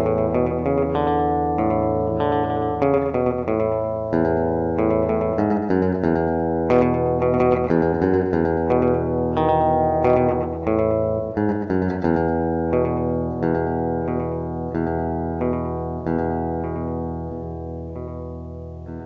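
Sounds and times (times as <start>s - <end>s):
song with plucked guitar and bass: 0.0s - 19.0s.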